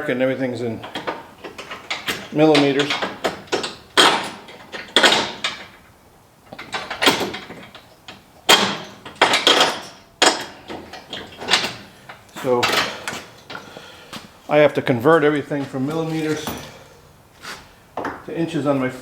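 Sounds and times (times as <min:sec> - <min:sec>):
hand tools clanking and rattling: 0:00.5 - 0:14.5, 0:15.6 - 0:18.8.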